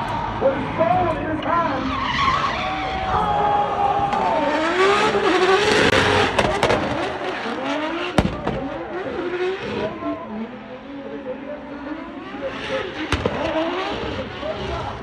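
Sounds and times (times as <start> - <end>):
car engine revving: 0.0 - 15.0
tyres skidding: 0.0 - 15.0.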